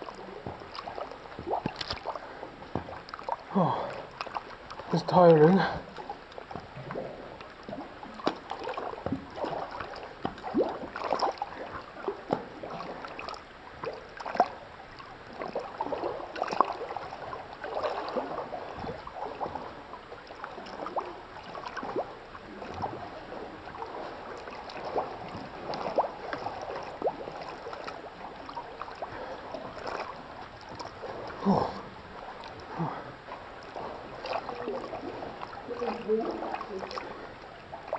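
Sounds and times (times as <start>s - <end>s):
water splashing from swimming: 0.0s - 37.9s.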